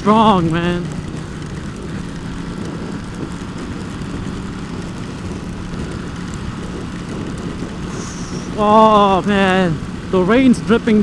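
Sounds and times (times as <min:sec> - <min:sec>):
motorcycle engine cruising: 0:00.0 - 0:11.0
wind rush: 0:00.7 - 0:09.9.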